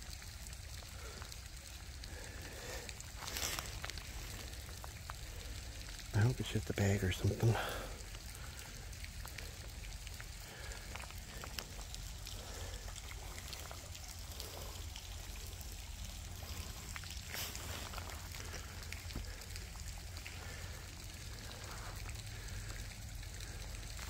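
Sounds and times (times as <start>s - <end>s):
heavy rain falling: 0.0s - 24.0s
raindrops tapping close by: 0.0s - 24.0s.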